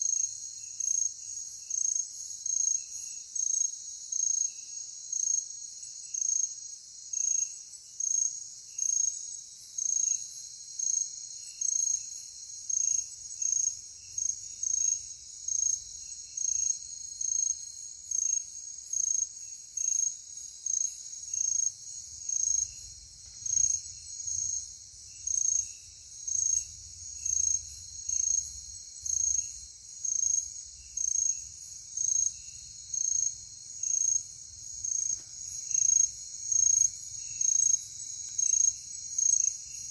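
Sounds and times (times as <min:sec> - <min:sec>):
faint quick insect chirping: 0:00.0 - 0:39.9
loud high insect chirp: 0:00.0 - 0:39.9.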